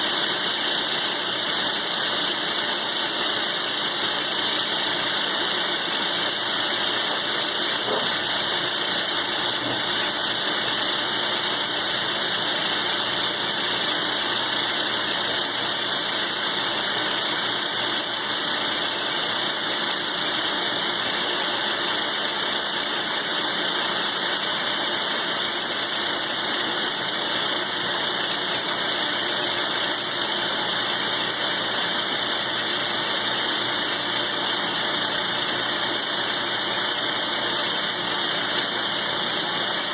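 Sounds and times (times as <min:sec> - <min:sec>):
high-pitched metal cutting noise: 0:00.0 - 0:39.9
milling machine running: 0:00.0 - 0:39.9.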